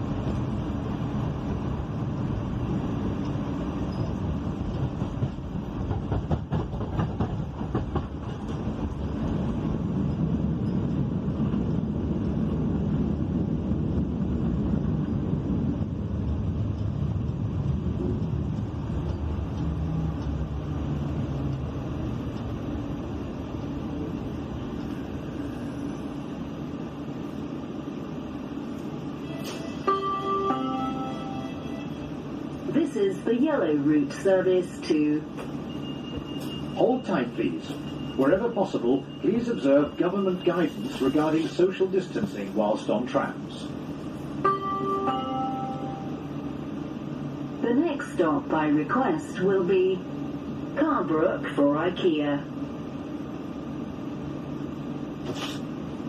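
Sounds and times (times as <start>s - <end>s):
tram rumble: 0.0s - 56.0s.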